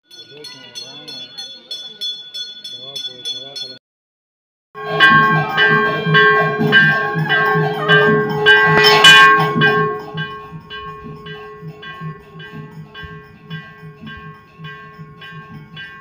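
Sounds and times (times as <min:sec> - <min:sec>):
temple bells ringing: 0:00.0 - 0:03.8, 0:04.8 - 0:16.0.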